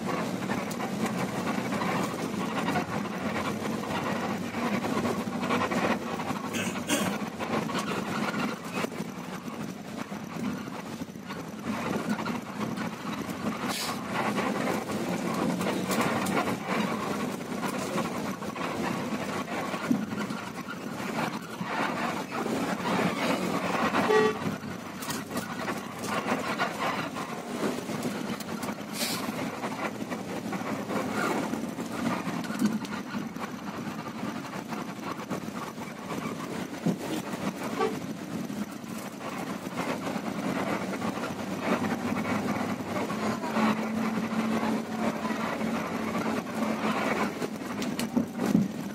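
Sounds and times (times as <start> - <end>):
coach engine running: 0.0 - 48.9
road noise: 0.0 - 48.9.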